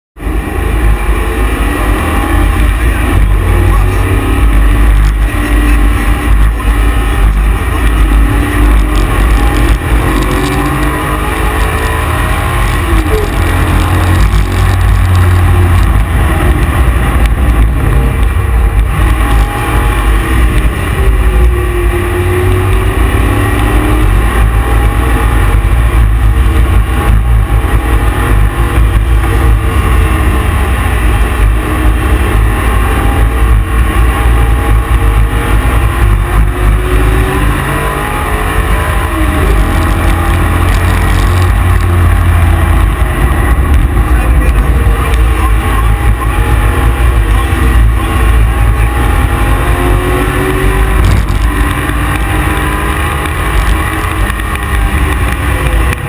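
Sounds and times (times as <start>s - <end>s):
car engine running hard: 0.2s - 56.0s.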